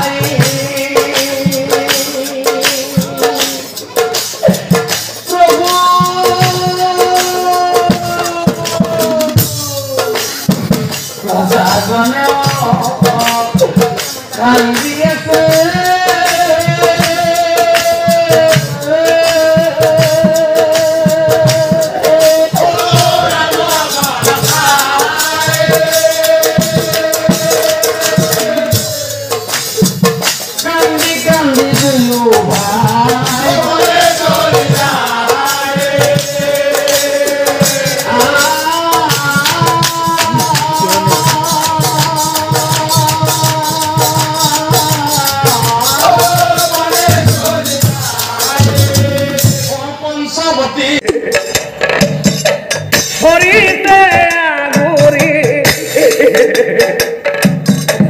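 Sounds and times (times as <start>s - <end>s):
drumming: 0.0s - 50.3s, 50.9s - 58.0s.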